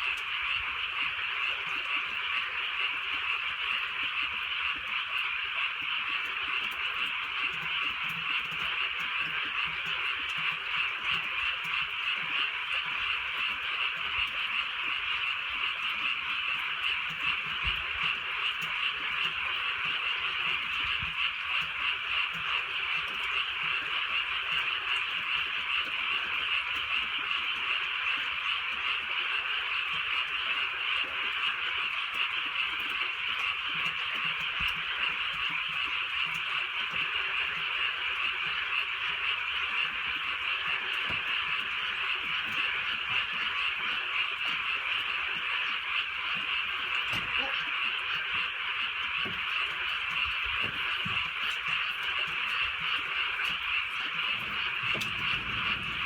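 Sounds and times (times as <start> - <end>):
frogs chorus: 0.0 - 56.0.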